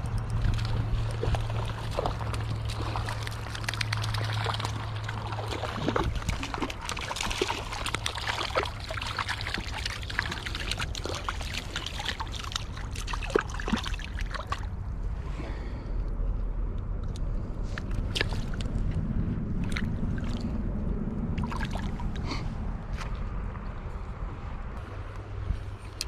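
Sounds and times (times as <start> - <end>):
river water trickling: 0.0 - 24.0.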